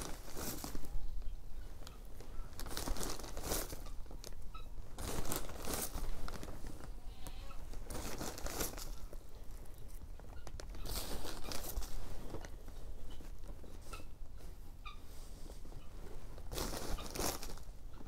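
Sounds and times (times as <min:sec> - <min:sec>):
grainy rustling of vermiculite: 0:00.0 - 0:18.0.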